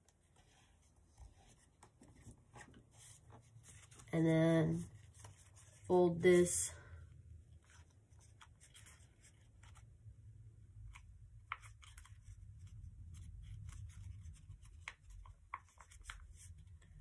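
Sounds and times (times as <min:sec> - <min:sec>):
paper crinkling while folded: 0:00.1 - 0:06.0, 0:07.6 - 0:09.9, 0:10.9 - 0:17.0.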